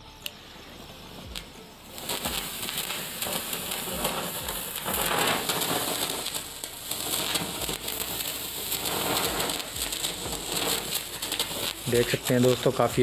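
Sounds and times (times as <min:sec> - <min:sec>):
firework crackling: 0:00.0 - 0:13.0
firework sparks hissing: 0:00.0 - 0:13.0.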